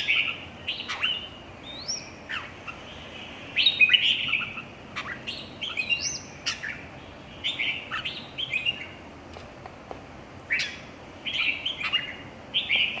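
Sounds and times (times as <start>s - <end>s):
bird singing warbled phrases: 0.0s - 9.1s, 10.4s - 13.0s.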